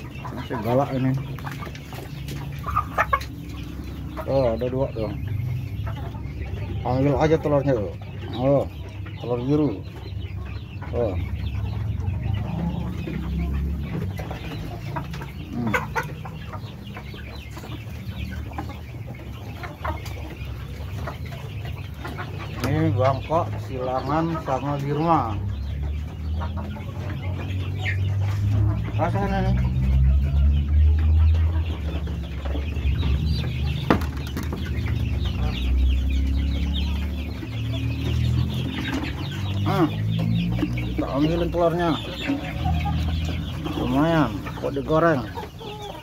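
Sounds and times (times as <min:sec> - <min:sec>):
chickens clucking and chirping: 0:00.0 - 0:46.0.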